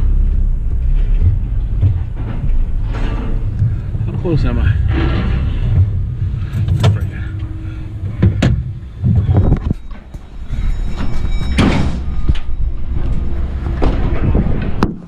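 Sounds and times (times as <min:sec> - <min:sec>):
sharp knocks and clanks: 0:00.0 - 0:15.0
vehicle engine rumbling: 0:00.0 - 0:15.0.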